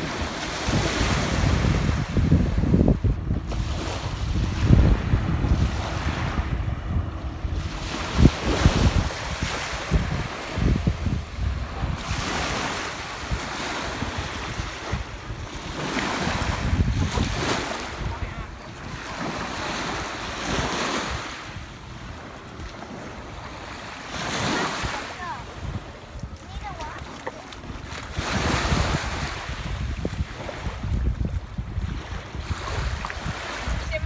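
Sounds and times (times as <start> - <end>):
waves breaking on shore: 0.0 - 34.0
wind buffeting microphone: 0.0 - 34.0.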